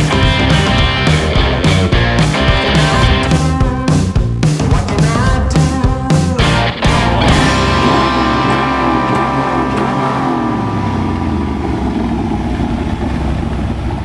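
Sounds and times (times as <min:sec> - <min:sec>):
rock music chord: 0:00.0 - 0:12.0
car engine revving: 0:00.0 - 0:14.0.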